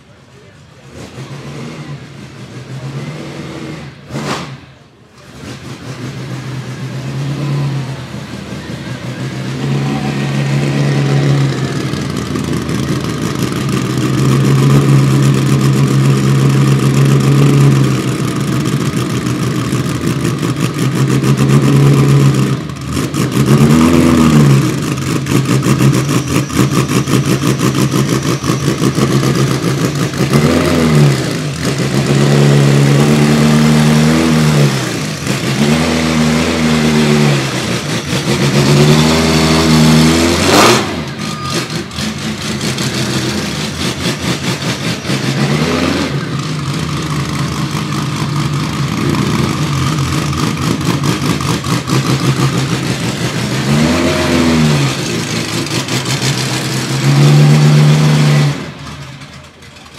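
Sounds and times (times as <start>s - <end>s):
car engine idling: 0.0s - 59.9s
engine revving: 0.8s - 59.4s.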